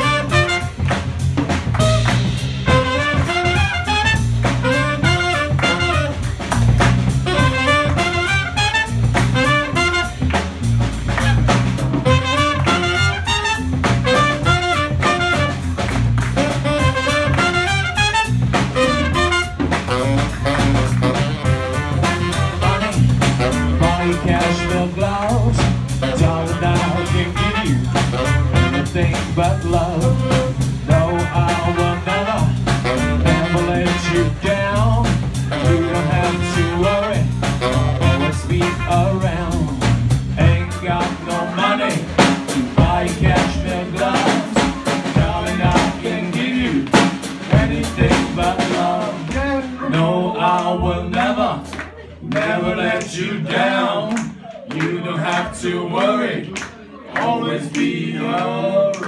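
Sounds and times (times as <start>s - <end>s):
saxophone: 0.0s - 25.2s, 25.8s - 49.9s
trumpet: 0.0s - 49.9s
drum kit: 0.0s - 56.1s
bass: 0.0s - 59.0s.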